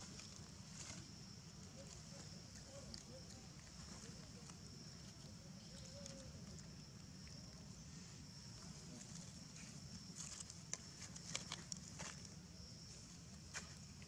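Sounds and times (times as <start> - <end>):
rustling of dry leaf litter: 0.0 - 13.9.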